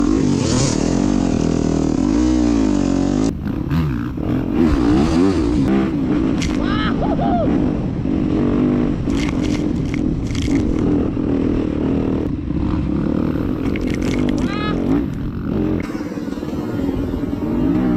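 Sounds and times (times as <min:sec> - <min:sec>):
dirt bike engine revving: 0:00.0 - 0:17.9.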